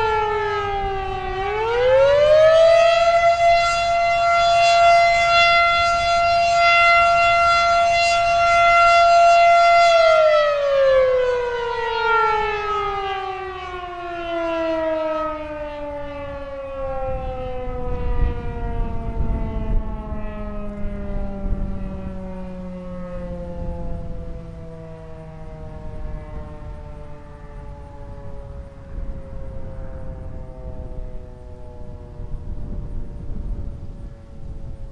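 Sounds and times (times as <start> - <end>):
warning siren winding down: 0.0 - 34.9.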